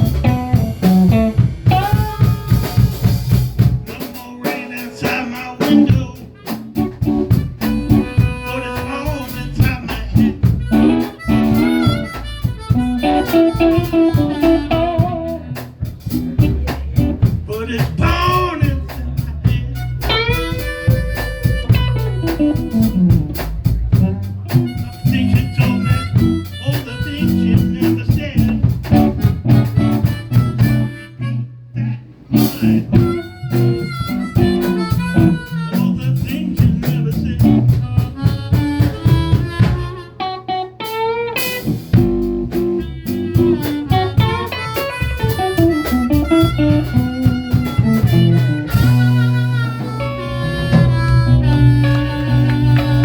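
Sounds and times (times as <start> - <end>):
harmonica solo: 0.0 - 3.5, 6.4 - 15.6, 19.1 - 53.0
drums steady beat: 0.0 - 31.1, 32.2 - 40.2, 40.8 - 53.0
guitar: 0.0 - 53.0.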